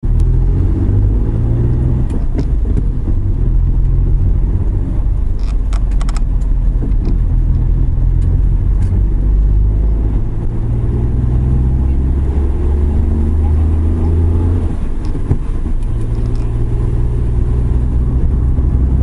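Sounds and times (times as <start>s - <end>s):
van engine and road noise drone: 0.0s - 19.0s.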